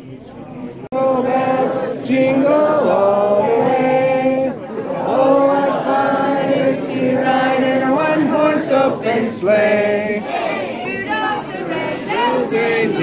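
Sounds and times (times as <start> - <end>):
group of people singing: 0.9 - 13.0.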